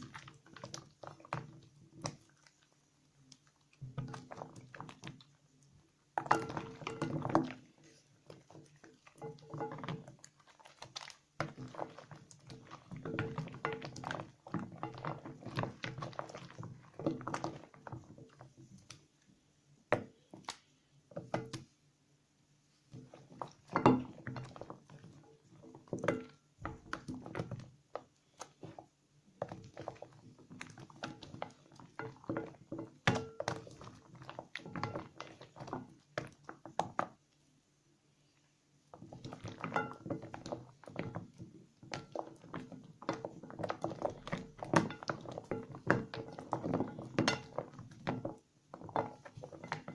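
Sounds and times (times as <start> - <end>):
wet squishing of soap lather: 0.0 - 21.8, 22.6 - 37.5, 38.1 - 49.9.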